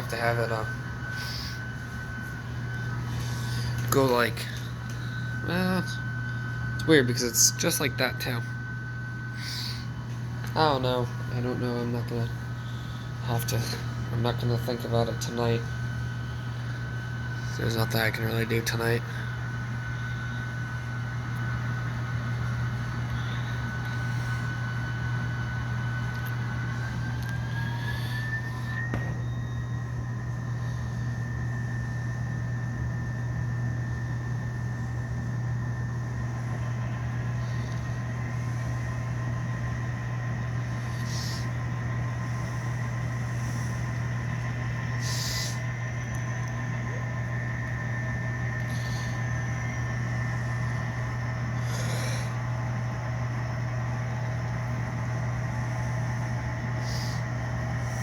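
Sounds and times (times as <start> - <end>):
model locomotive hum and whine: 0.0 - 58.0.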